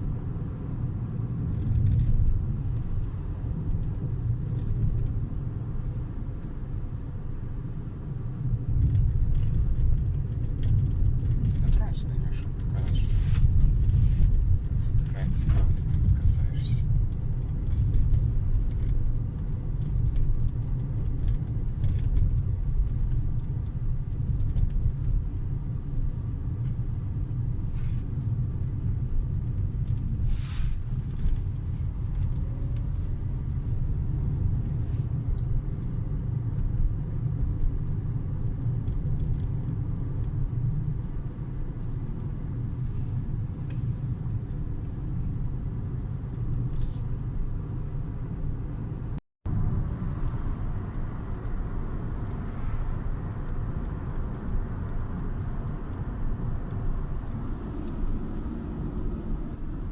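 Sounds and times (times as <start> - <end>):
road rumble inside car: 0.0 - 59.9.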